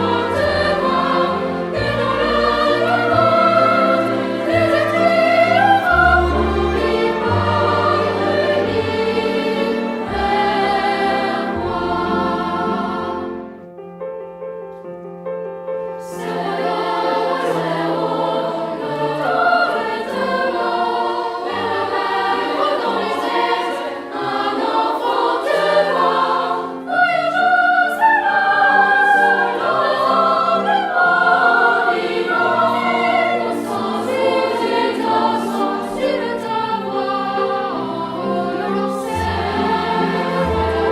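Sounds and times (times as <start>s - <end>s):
choir singing: 0.0s - 13.7s, 16.0s - 40.9s.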